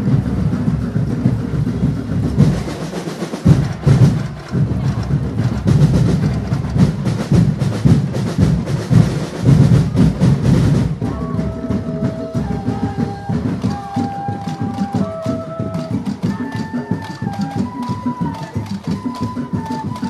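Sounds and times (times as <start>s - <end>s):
drum ensemble playing fast beat: 0.0s - 20.0s.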